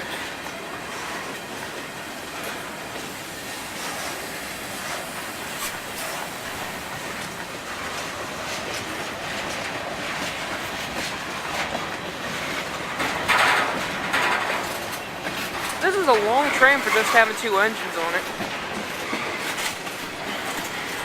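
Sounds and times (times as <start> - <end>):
freight train cars rolling: 0.0 - 21.0
train wheels clicking: 0.0 - 21.0.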